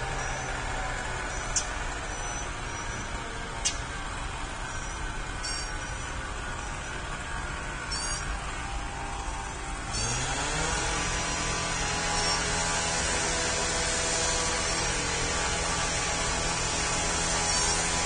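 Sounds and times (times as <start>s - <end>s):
droning engine hum: 0.0s - 18.0s.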